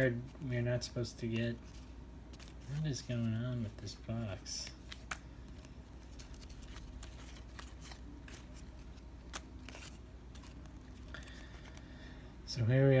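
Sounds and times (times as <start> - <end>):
cards being flipped through: 1.2 - 11.9.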